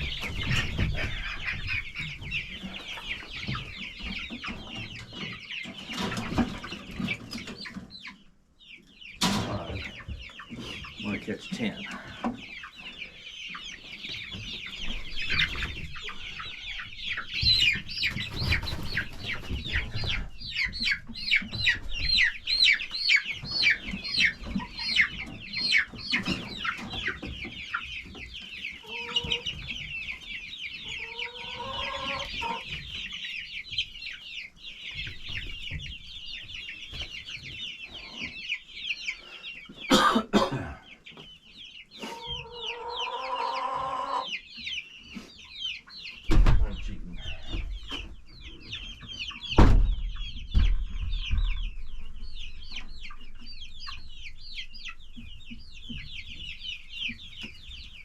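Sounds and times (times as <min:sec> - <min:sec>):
chickens chirping: 0:00.0 - 0:58.0.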